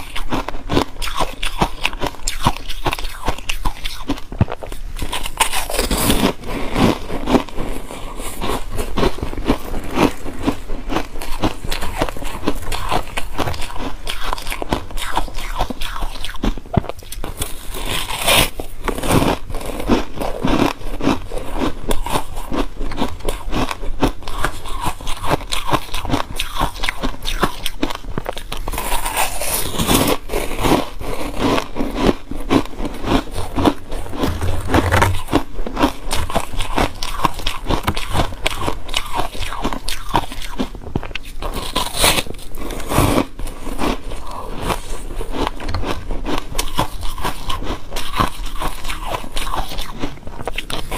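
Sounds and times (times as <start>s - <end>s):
crunching and chewing ice: 0.0s - 50.9s.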